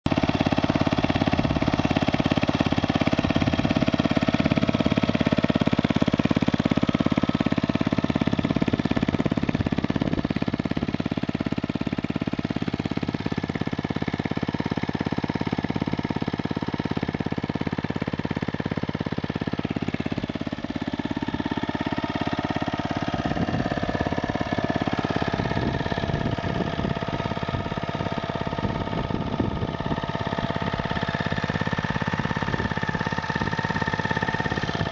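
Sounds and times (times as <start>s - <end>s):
lawnmower engine idling: 0.1s - 34.9s.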